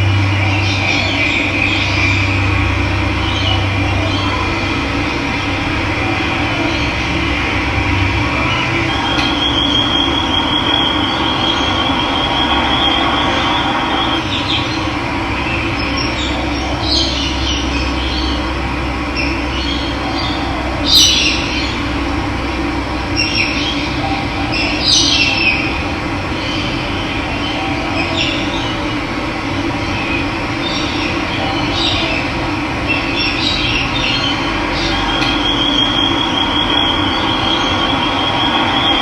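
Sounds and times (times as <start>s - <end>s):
birds trilling and chirping: 0.0s - 39.0s.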